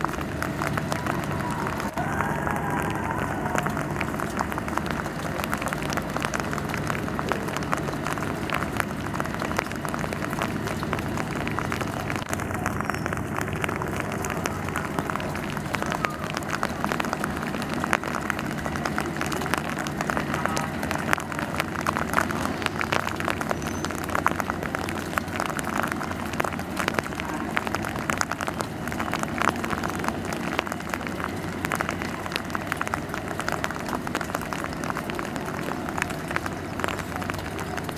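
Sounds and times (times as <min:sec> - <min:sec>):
rapid clicking and clatter: 0:00.0 - 0:37.9
train rumbling: 0:00.0 - 0:37.9.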